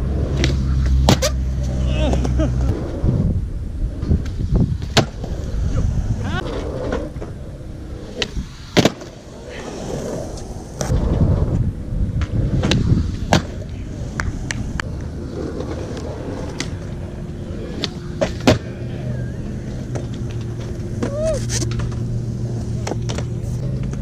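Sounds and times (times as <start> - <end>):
skateboard wheels rumbling on concrete: 0.0 - 24.0.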